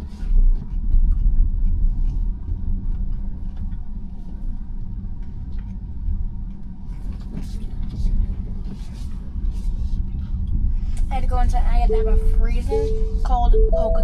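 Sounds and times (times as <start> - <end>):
tyre and road noise in car cabin: 0.0 - 14.0.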